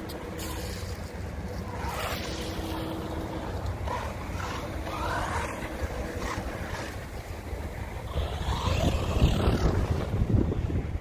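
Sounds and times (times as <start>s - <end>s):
rc truck motor whine: 0.0s - 10.2s
wind buffeting microphone: 0.0s - 11.0s.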